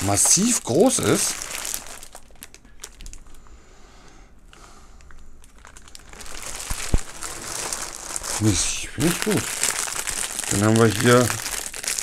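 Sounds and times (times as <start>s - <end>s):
plastic wrapping crinkling: 0.0s - 3.4s, 5.0s - 12.0s.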